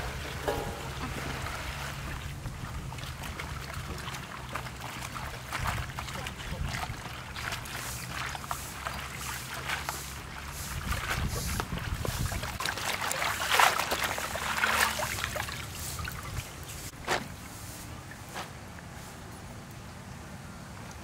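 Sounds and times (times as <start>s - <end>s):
water sloshing in steel basin: 0.0s - 17.5s.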